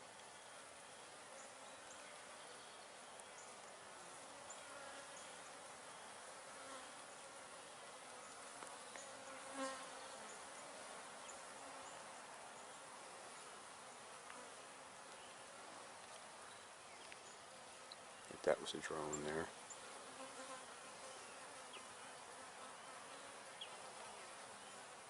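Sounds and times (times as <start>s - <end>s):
bee buzzing close by: 3.4s - 25.0s
honey bees buzzing: 4.0s - 25.0s.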